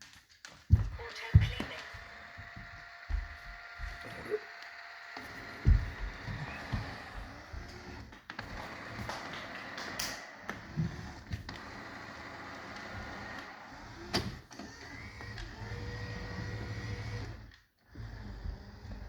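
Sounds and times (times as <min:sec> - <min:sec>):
vacuum motor whirring: 0:00.7 - 0:19.0.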